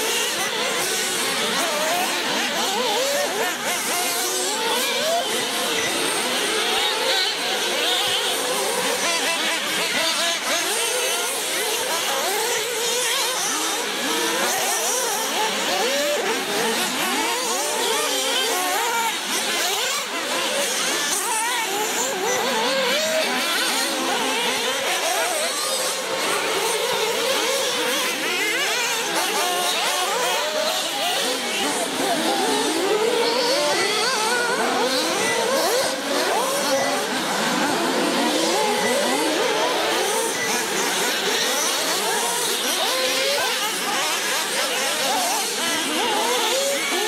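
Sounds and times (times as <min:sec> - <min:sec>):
radio-controlled cars revving: 0:00.0 - 0:47.0.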